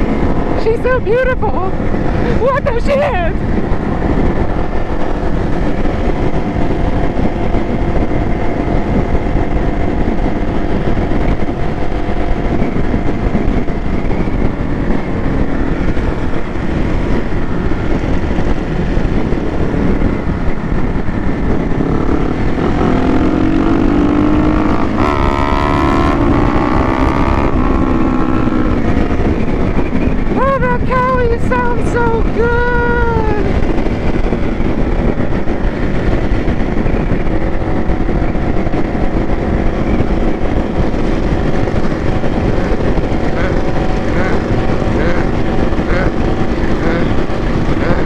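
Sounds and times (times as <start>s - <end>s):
motorcycle engine revving: 0.0s - 48.0s
motorcycle engines droning: 0.0s - 48.0s
wind rumble on microphone: 0.0s - 48.0s.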